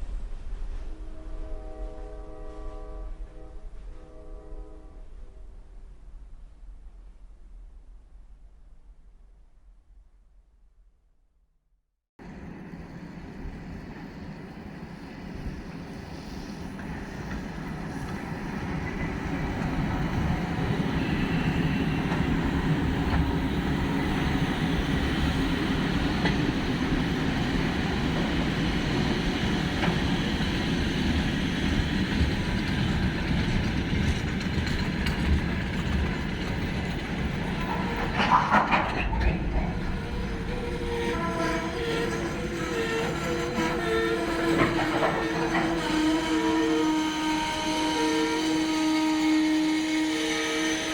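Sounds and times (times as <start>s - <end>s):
train rumbling on rails: 0.0s - 9.4s, 12.2s - 50.9s.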